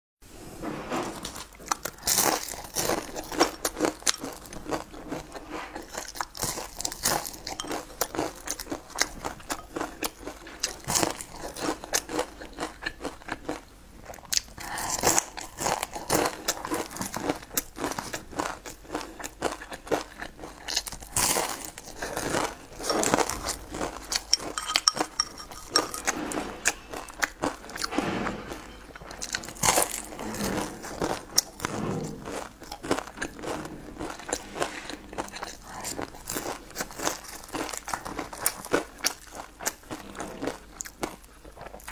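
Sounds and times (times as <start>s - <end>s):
chewing crispy food: 1.4s - 24.6s, 29.0s - 41.9s.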